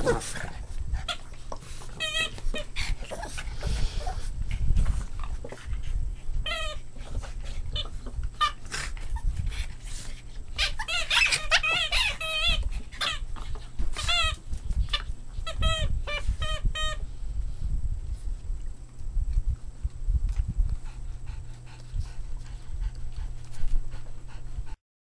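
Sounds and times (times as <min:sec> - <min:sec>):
dogs play-fighting: 0:00.0 - 0:17.1, 0:18.3 - 0:24.8.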